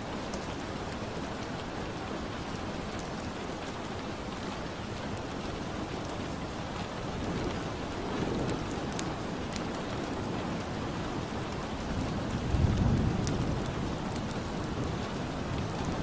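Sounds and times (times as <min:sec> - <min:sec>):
steady rain: 0:00.0 - 0:16.0
fireplace crackles: 0:03.0 - 0:16.0.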